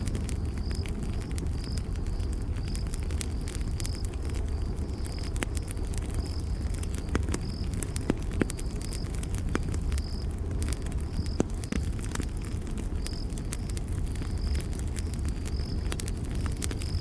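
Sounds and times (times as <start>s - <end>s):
campfire crackling and popping: 0.0s - 17.0s
cricket chirping: 0.0s - 17.0s.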